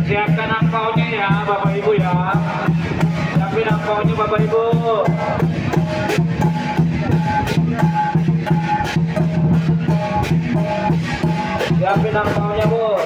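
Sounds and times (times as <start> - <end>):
drum beating steady rhythm: 0.0 - 13.0
cymbal clashes: 0.6 - 13.0.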